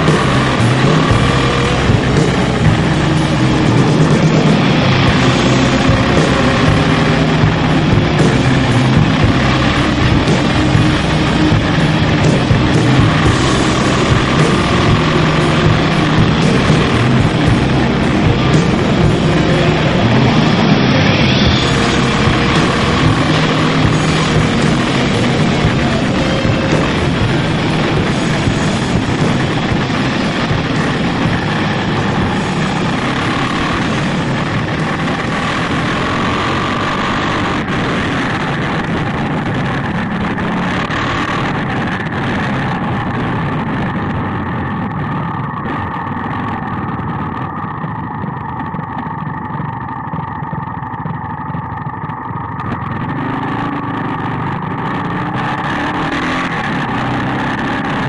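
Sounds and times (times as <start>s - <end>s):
motorcycle engine: 0.0s - 58.0s
wind rush: 0.0s - 58.0s.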